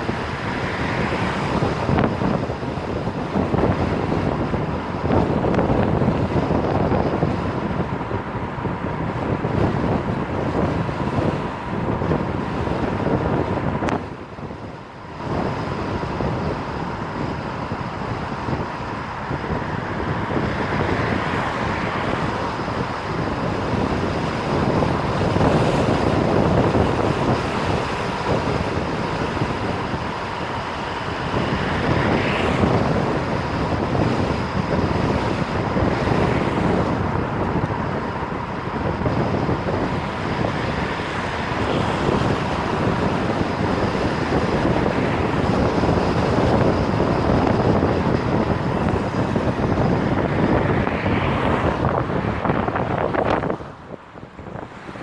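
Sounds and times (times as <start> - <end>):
faint steady whine: 0.0 - 55.0
wind rushing over microphone: 0.0 - 55.0.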